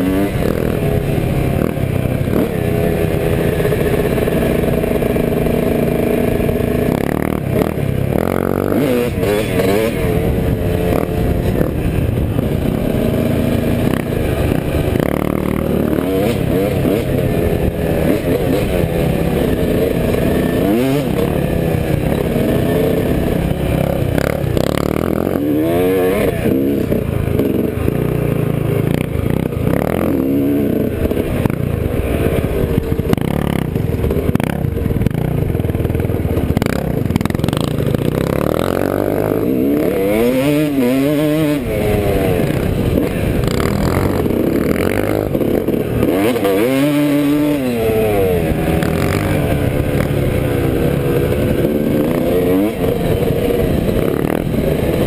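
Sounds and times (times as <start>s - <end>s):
dirt bike engine revving: 0.0s - 55.0s
low wind rumble: 0.0s - 55.0s.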